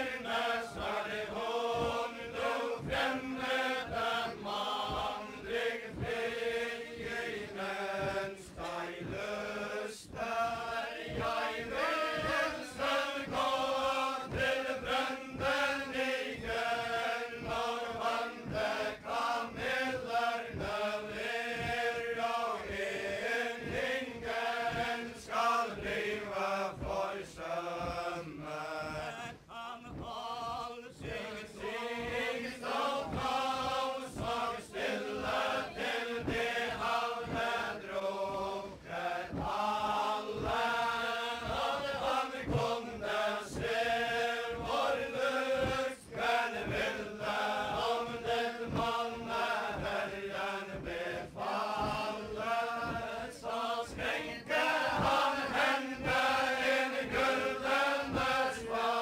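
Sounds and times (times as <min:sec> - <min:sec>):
feet stamping: 0:00.0 - 0:59.0
group chanting a ballad: 0:00.0 - 0:59.0.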